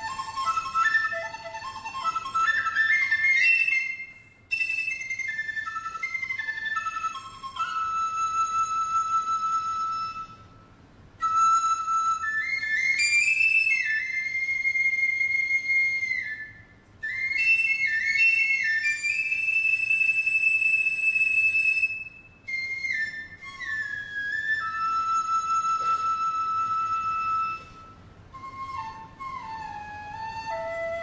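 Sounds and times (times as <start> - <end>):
bamboo flute solo: 0.0 - 31.0.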